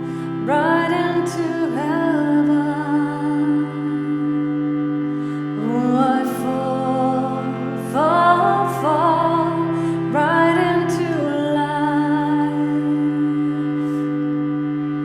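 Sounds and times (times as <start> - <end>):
low drone: 0.0 - 15.0
wordless sung melody: 0.0 - 15.0.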